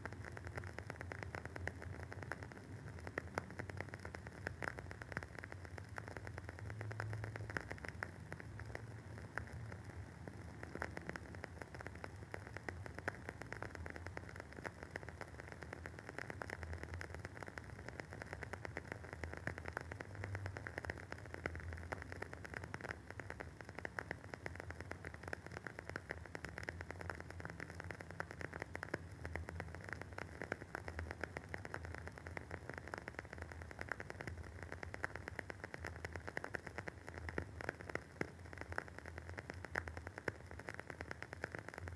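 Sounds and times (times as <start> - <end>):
candle wick crackling: 0.1 - 41.9.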